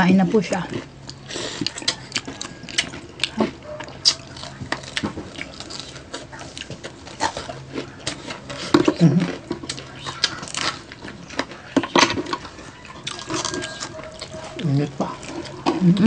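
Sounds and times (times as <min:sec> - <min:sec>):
crunching crispy food: 0:00.6 - 0:15.8
chewing and lip smacks: 0:00.7 - 0:15.8.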